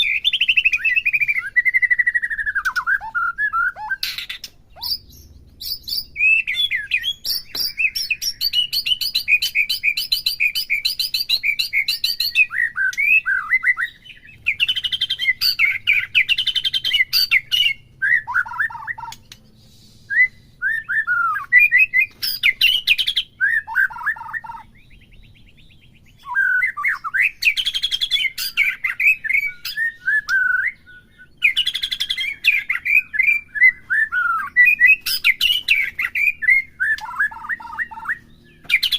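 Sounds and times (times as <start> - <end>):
songbird singing varied whistles: 0.0 - 38.9.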